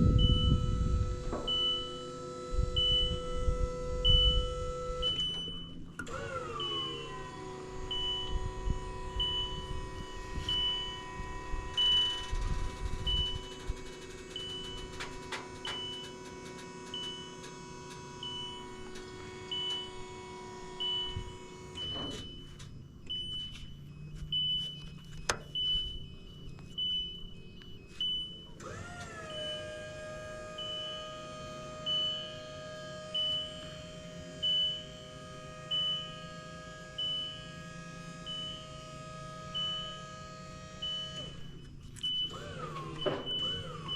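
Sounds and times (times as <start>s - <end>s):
boom lift motor whining: 0.0s - 43.9s
high alarm beeps: 0.0s - 43.9s.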